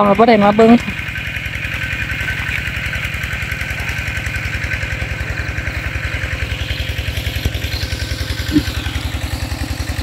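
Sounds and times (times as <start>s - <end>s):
small water pump engine running: 0.0s - 10.0s.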